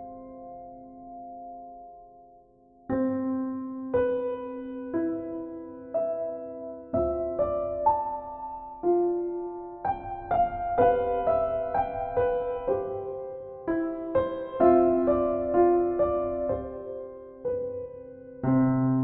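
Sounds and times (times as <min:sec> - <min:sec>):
gentle solo piano: 0:00.0 - 0:19.0.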